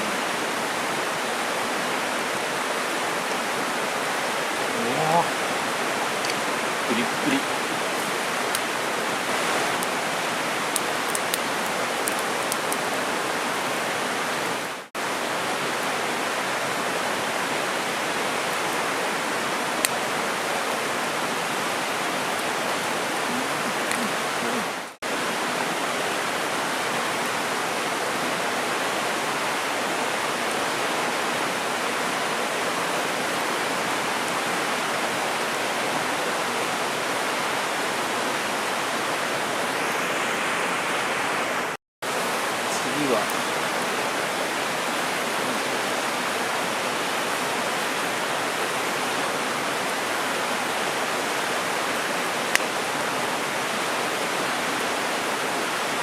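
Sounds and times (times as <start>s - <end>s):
mountain river flowing: 0.0s - 56.0s.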